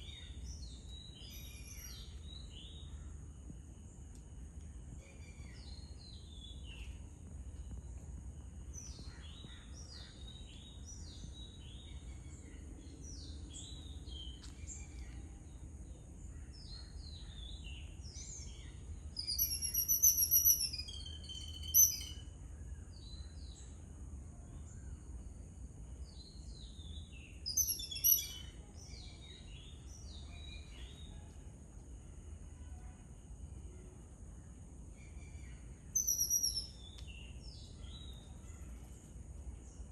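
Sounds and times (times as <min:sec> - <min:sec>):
small birds chirping: 0:00.0 - 0:23.8, 0:26.0 - 0:39.9.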